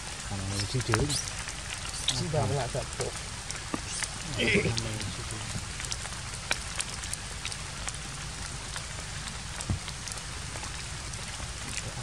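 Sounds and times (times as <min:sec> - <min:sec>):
light rain pattering on leaves: 0:00.0 - 0:12.0
sharp drip ticks: 0:00.0 - 0:12.0.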